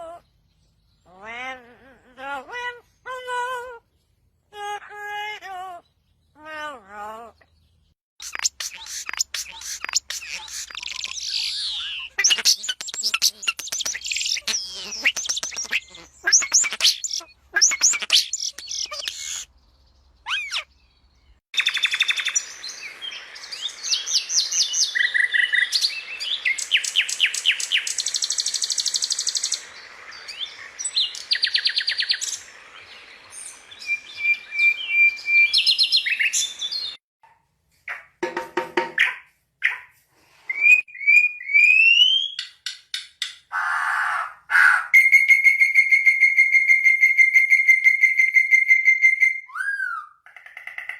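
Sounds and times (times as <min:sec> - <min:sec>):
birds chirping and trilling: 0:00.0 - 0:37.0, 0:40.6 - 0:50.9.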